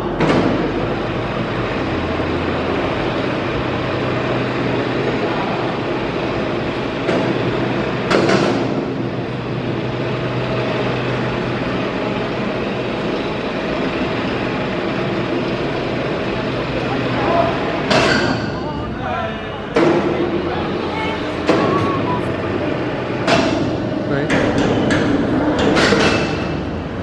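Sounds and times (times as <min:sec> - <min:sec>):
factory machinery hum: 0:00.0 - 0:27.0.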